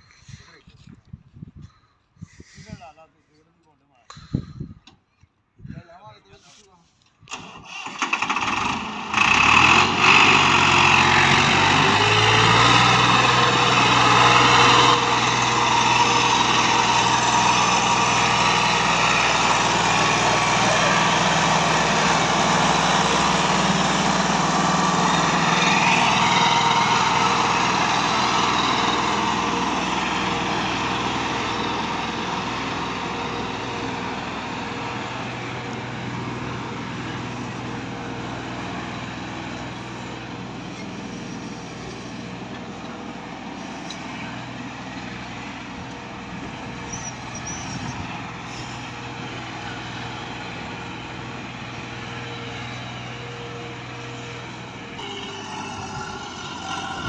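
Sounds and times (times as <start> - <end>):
tractor diesel engine under load: 7.1 - 57.0.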